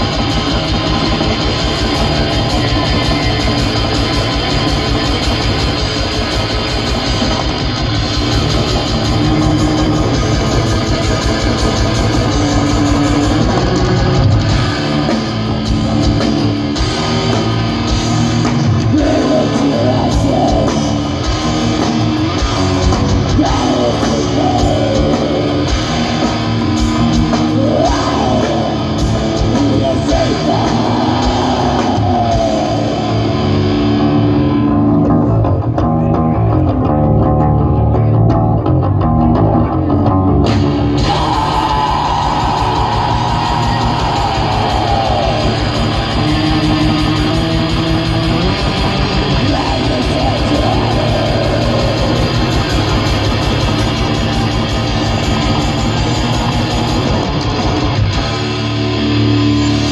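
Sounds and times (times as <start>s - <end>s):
bass guitar: 0.0s - 59.9s
distorted electric guitars: 0.0s - 59.9s
drum kit: 0.0s - 59.9s.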